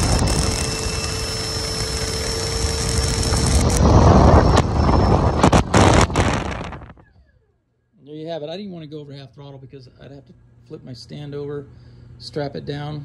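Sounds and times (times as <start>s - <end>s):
electric ducted fan whine: 0.0s - 13.0s.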